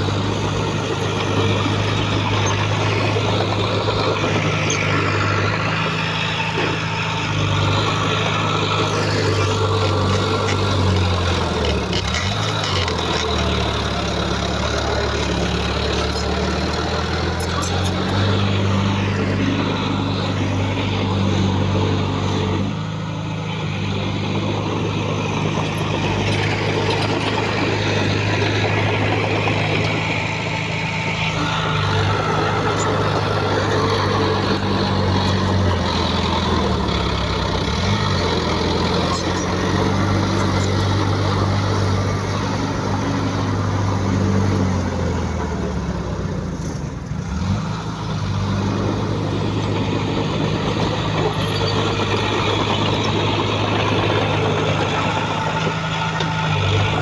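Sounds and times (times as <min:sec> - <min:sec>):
heavy diesel engine running under load: 0:00.0 - 0:57.0.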